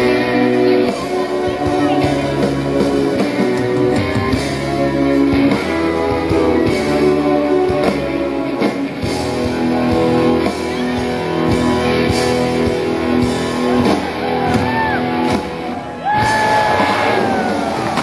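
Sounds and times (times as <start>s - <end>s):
electric guitars playing chords: 0.0s - 18.0s.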